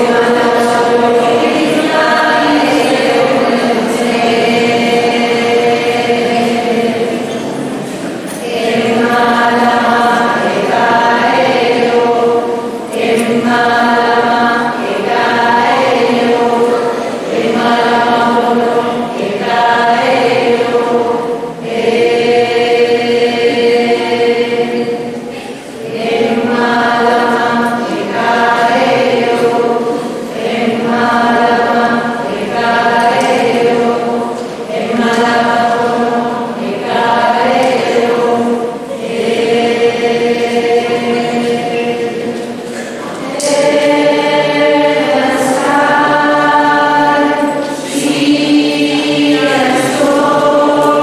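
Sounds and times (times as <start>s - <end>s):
choir singing chant-like melody: 0.0s - 51.0s.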